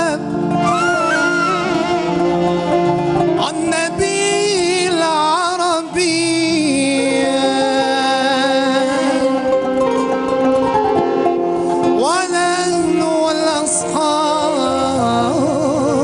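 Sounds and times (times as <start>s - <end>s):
man singing ornamented melody: 0.0s - 10.3s, 11.8s - 16.0s
band accompanying: 0.0s - 16.0s.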